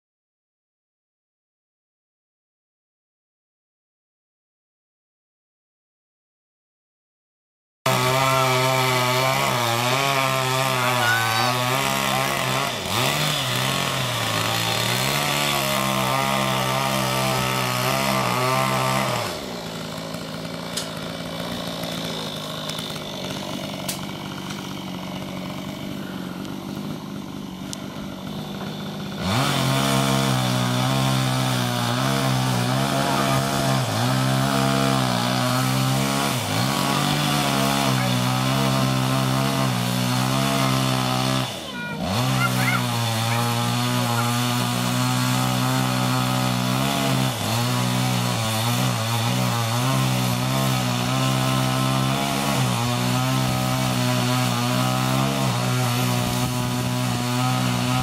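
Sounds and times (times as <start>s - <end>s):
chainsaw cutting a tree trunk: 7.9s - 58.0s.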